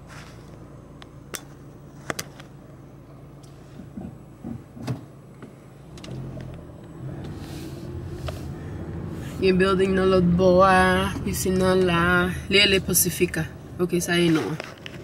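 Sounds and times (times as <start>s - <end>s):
car engine low hum: 0.0s - 15.0s.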